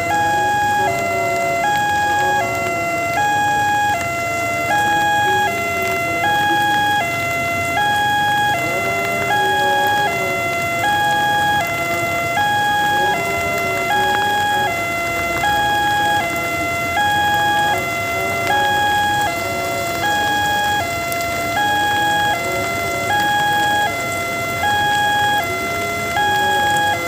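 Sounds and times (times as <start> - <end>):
level crossing warning siren: 0.0 - 27.0.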